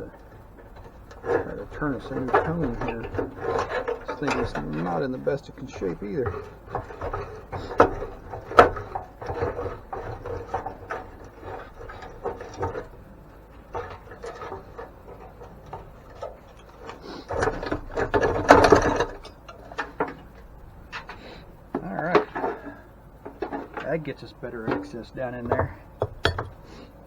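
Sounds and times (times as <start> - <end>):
knocks and clicks of mill parts: 0.0 - 27.0
rattling and scraping: 0.0 - 27.0.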